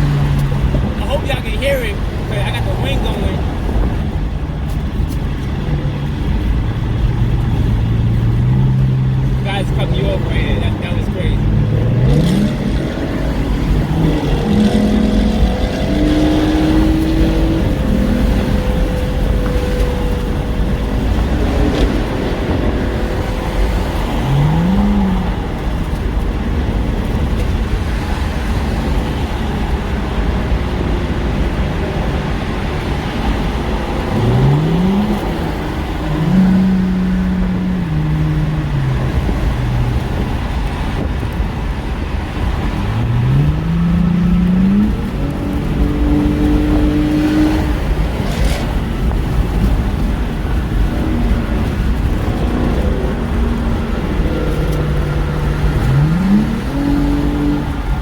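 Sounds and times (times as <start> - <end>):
car engine accelerating hard: 0.0 - 58.0
road and wind noise: 0.0 - 58.0.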